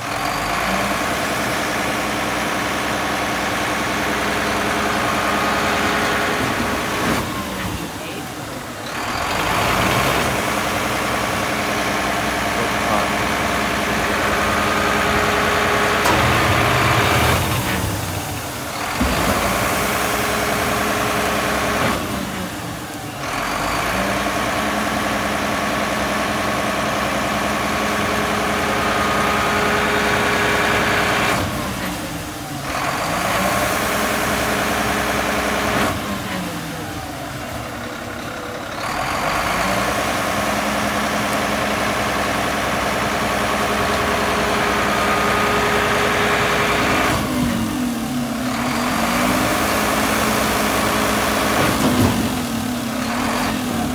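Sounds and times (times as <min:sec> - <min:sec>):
garbage truck engine idling: 0:00.0 - 0:53.9.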